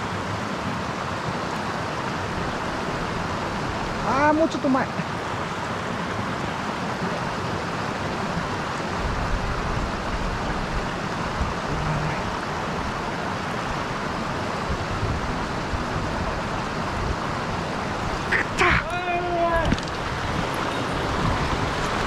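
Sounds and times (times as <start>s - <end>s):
stream water running over rocks: 0.0s - 22.0s.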